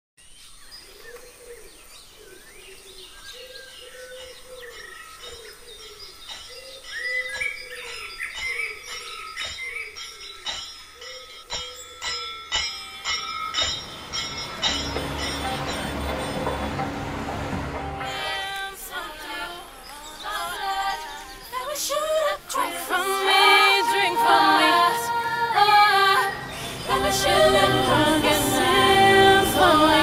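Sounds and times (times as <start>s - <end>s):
higher bird chirps: 2.4s - 30.0s.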